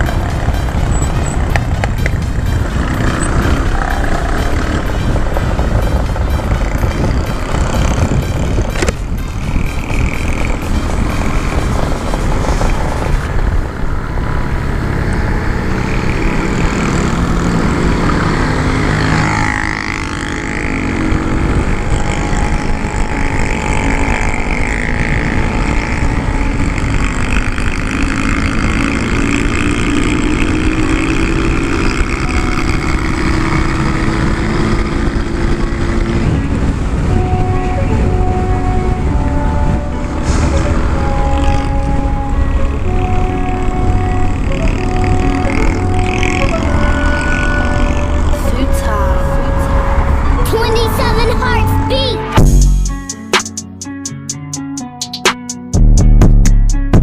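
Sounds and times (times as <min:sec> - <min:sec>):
wind rumble on microphone: 0:00.0 - 0:50.4
scooter engine running: 0:00.0 - 0:54.0.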